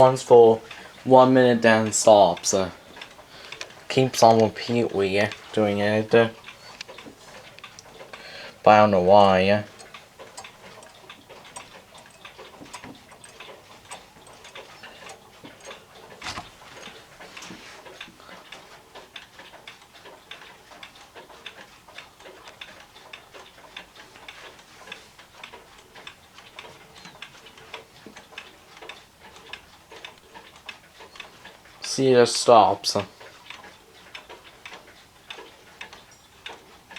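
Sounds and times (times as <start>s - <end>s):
wall clock ticking: 0.0s - 36.9s.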